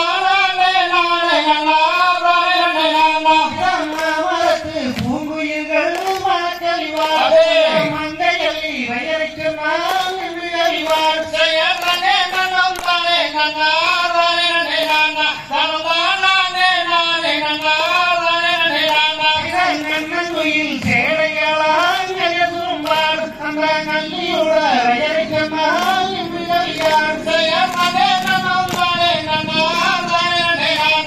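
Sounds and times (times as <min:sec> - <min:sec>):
person singing folk song: 0:00.0 - 0:31.0
sharp rhythmic beats: 0:00.0 - 0:31.0.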